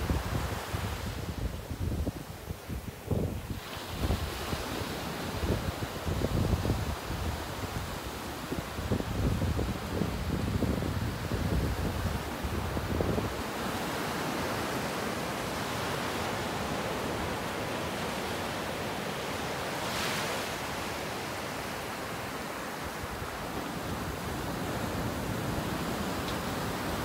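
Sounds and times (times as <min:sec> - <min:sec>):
waves washing up a beach: 0:00.0 - 0:27.0.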